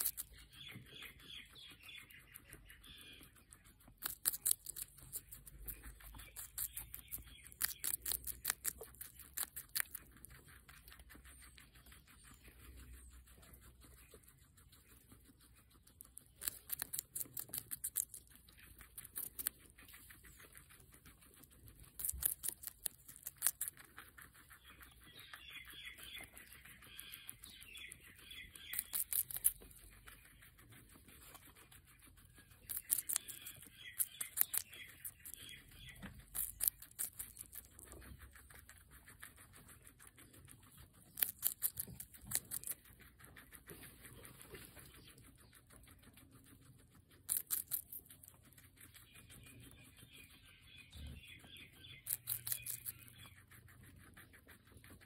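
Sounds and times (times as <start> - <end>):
guinea pig crunching pepper: 0.0 - 55.0
quiet chewing: 0.0 - 55.0.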